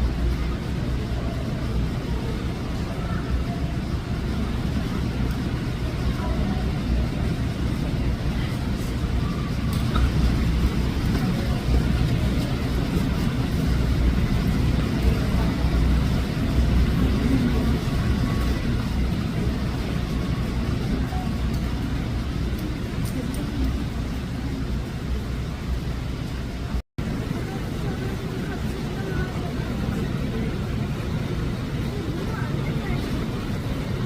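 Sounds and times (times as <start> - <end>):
faint scattered higher sounds: 0.0 - 34.0
steady low rumble: 0.0 - 34.0.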